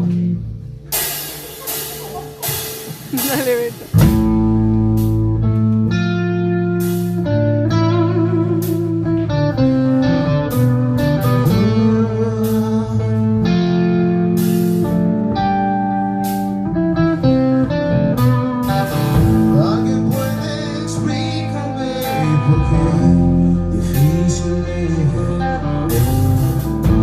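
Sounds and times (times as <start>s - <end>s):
electric guitar lead: 0.0s - 27.0s
rock band playing: 0.0s - 27.0s.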